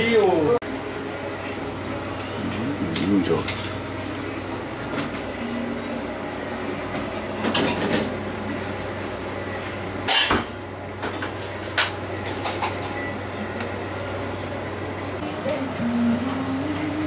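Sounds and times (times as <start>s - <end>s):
steady low hum: 0.2s - 17.0s.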